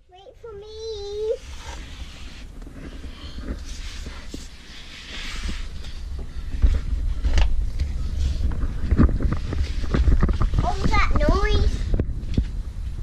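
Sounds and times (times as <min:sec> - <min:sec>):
wind rumbling on microphone: 0:01.2 - 0:13.0.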